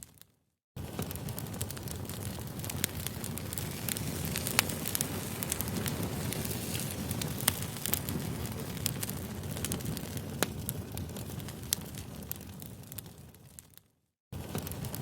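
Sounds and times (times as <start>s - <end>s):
campfire crackling: 0.8s - 13.8s, 14.4s - 15.0s.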